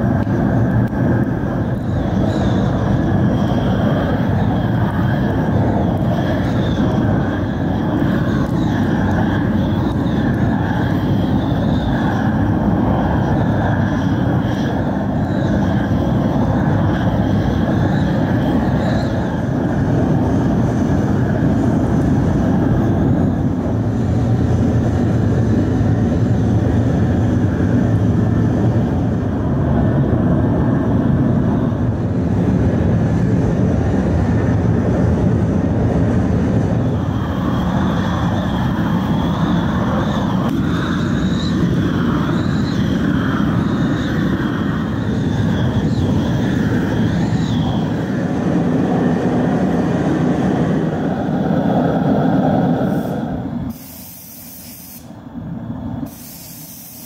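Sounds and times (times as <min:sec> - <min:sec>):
wavering high whine: 0:00.0 - 0:57.0.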